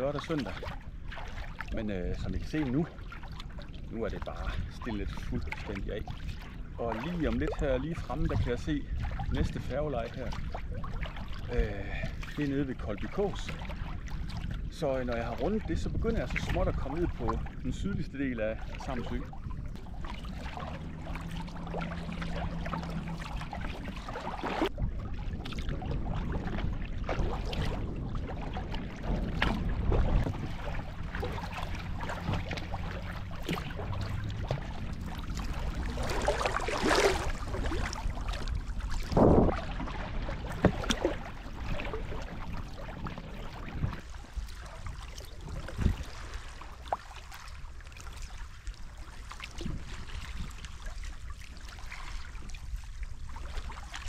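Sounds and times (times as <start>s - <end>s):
low steady rumble: 0.0s - 54.0s
paddle splashes: 0.0s - 54.0s
water lapping against kayak hull: 0.0s - 54.0s.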